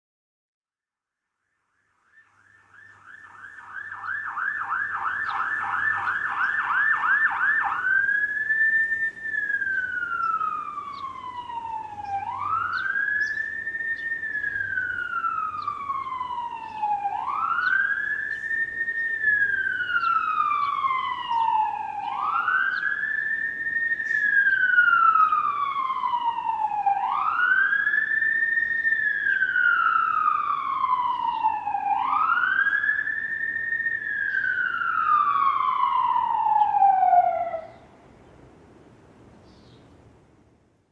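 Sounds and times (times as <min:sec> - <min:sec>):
emergency vehicle siren: 0:01.6 - 0:38.8.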